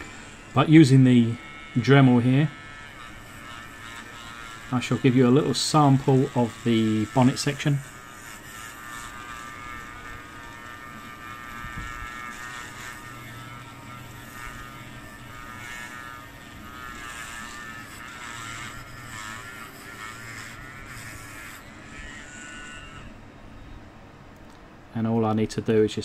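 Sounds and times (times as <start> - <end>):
rotary tool motor whine: 0.0 - 23.2.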